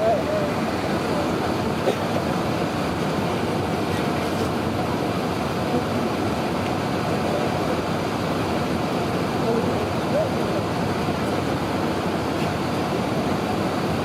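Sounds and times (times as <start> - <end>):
airliner cabin roar: 0.0 - 14.0.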